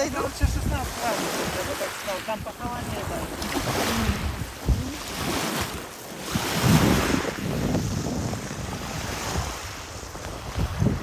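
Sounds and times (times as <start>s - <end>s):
waves washing onto pebbles: 0.0s - 11.0s
wind buffeting microphone: 0.0s - 11.0s.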